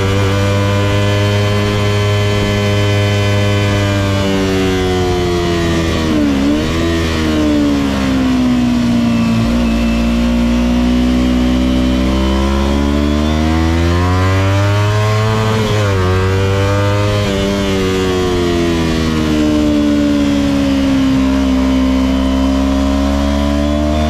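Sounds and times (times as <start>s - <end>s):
motorcycle engine revving at speed: 0.0s - 24.0s.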